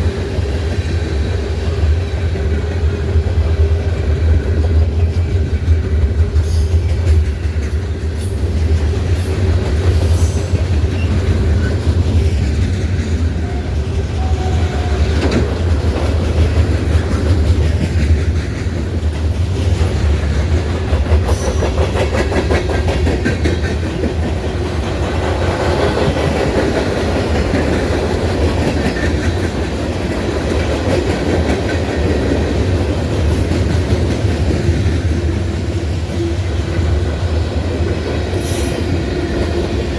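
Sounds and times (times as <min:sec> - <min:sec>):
train rumbling past: 0:00.0 - 0:39.9
wheels clickety-clack over rail joints: 0:00.0 - 0:39.9.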